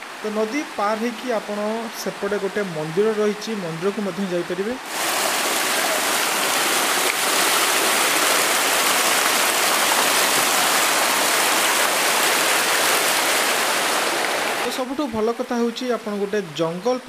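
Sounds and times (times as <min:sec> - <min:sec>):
whitewater rushing over rocks: 0:00.0 - 0:16.4.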